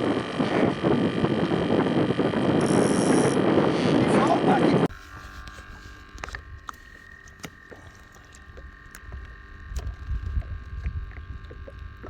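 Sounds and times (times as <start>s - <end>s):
faint steady high hum: 0.0s - 12.0s
low wind rumble: 0.0s - 12.0s.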